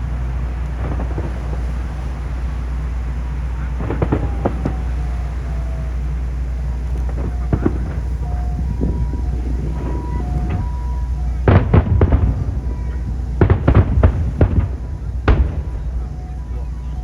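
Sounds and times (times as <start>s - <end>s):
fireworks bursting with bangs: 0.0s - 17.0s
steady low rumble: 0.0s - 17.0s.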